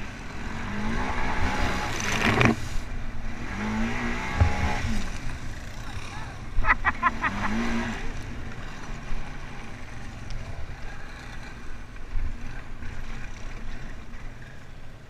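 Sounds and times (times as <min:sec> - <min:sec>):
quad bike engine rumbling: 0:00.0 - 0:15.0.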